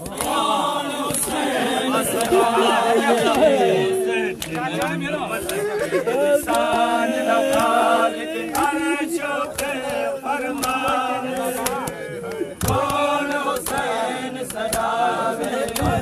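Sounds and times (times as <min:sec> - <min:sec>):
men chanting in a group: 0:00.0 - 0:16.0.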